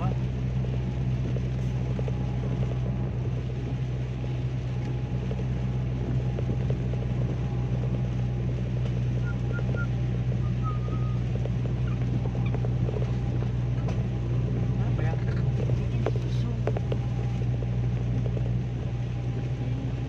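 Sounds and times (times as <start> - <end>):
engine and tyre drone: 0.0 - 20.0
rain pattering on car: 0.0 - 20.0.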